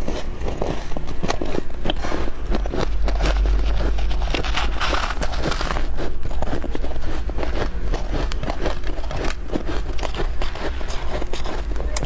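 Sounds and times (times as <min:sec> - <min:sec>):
chewing crunchy frost: 0:00.0 - 0:12.0.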